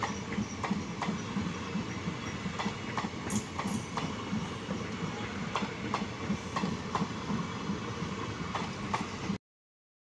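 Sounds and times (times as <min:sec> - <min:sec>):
train coaches rumbling past: 0:00.0 - 0:09.4
wheels clicking over rail joints: 0:00.0 - 0:09.4.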